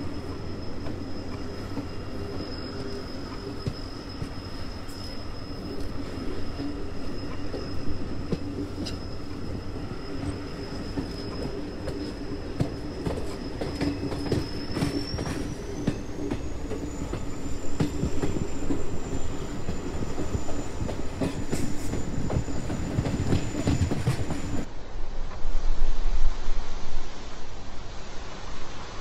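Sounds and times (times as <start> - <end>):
high thin wheel whine: 0.0 - 24.7
train rumbling on rails: 0.0 - 29.0.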